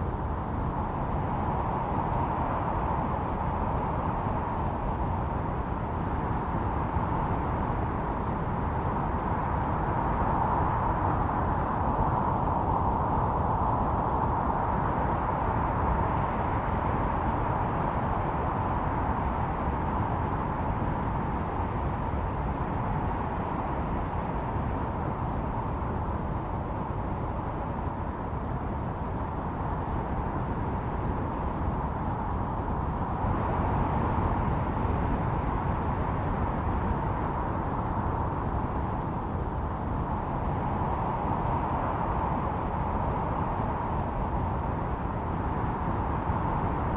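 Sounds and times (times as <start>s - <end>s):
howling snowstorm wind: 0.0s - 46.9s.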